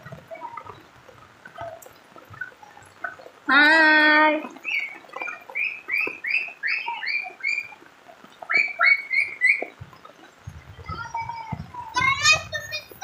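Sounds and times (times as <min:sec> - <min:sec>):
faint rain hiss: 0:00.0 - 0:13.0.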